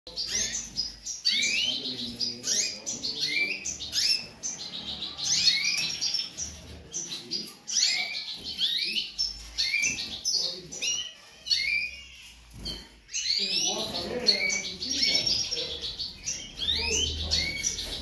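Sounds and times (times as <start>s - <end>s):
canary chirping: 0.1s - 18.0s.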